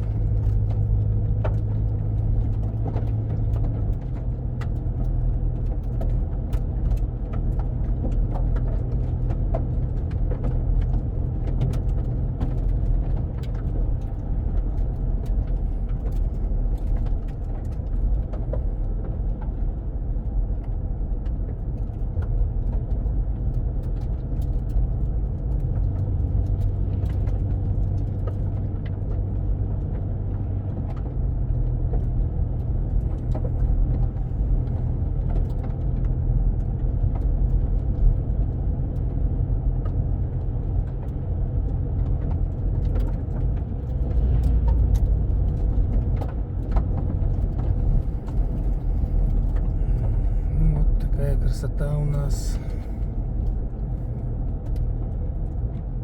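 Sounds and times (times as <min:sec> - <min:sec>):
car engine and tyres rumbling: 0:00.0 - 0:56.0
light ticks: 0:00.1 - 0:55.9.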